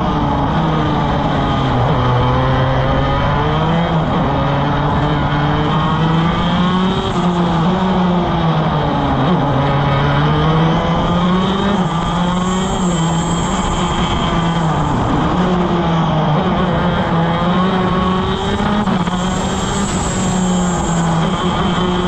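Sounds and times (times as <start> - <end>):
kart engine accelerating: 0.0 - 22.0.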